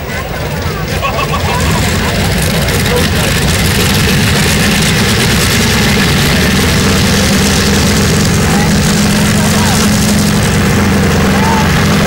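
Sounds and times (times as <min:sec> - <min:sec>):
tractor engine idling loudly: 0:00.0 - 0:12.0.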